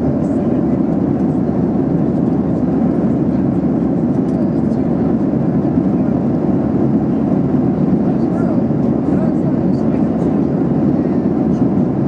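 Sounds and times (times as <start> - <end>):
airflow over fuselage: 0.0 - 12.0
airplane cabin engine rumble: 0.0 - 12.0.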